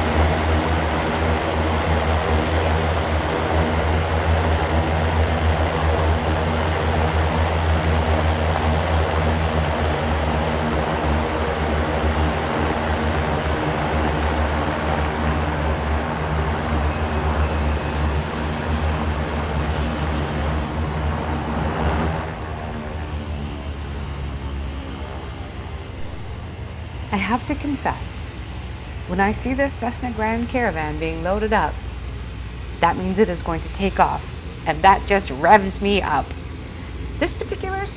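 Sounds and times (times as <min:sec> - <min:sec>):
propeller aircraft engine droning: 0:00.0 - 0:37.9.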